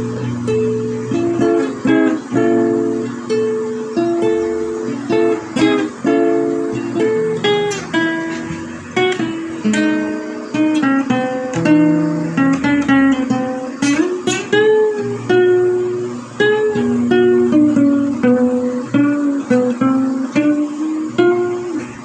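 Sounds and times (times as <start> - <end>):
acoustic guitar plucked and strummed: 0.0 - 22.0.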